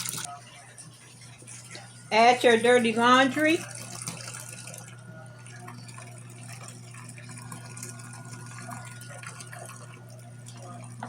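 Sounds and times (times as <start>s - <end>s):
water running into a tub: 0.0s - 0.4s, 1.4s - 11.0s.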